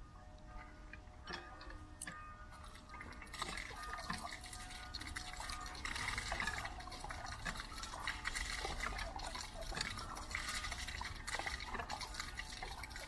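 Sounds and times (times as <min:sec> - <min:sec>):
water pouring and splashing: 0:01.3 - 0:13.0.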